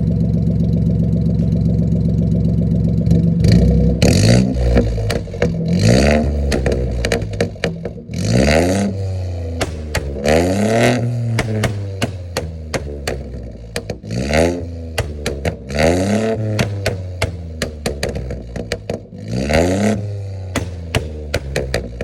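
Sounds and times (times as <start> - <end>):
car engine revving: 0.0 - 22.0
exhaust pops and crackles: 0.0 - 22.0.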